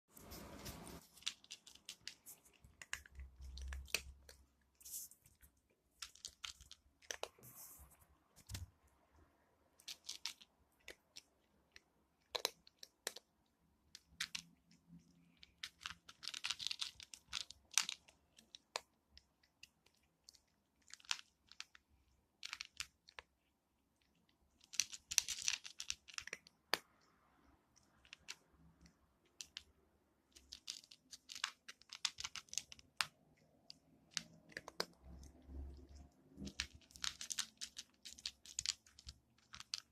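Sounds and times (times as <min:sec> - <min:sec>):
cat crunching dry kibble: 0:00.2 - 0:07.8, 0:09.8 - 0:13.3, 0:14.0 - 0:39.9.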